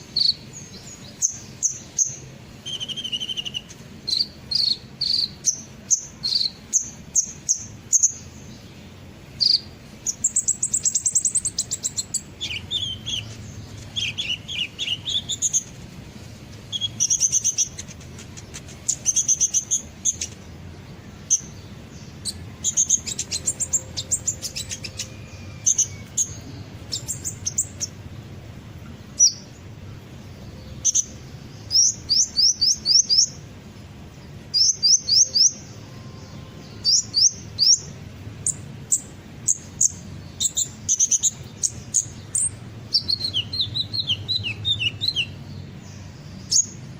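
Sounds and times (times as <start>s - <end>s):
small bird chirping and trilling: 0.0s - 46.9s.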